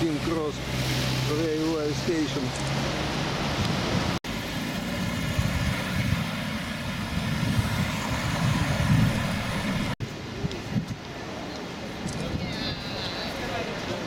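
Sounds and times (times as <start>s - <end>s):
low rumble of passing vehicles: 0.0s - 14.0s.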